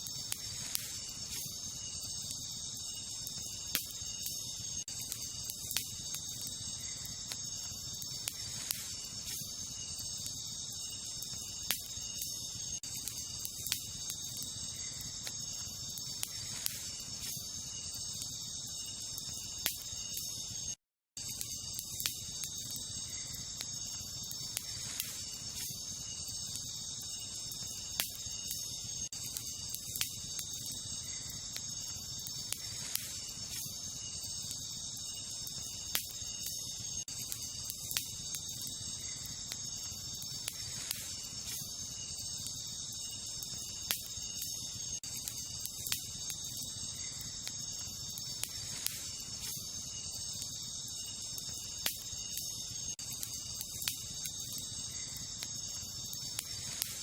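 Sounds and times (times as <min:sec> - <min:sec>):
campfire crackling: 0:00.0 - 0:57.0
crickets and night insects: 0:00.0 - 0:57.0.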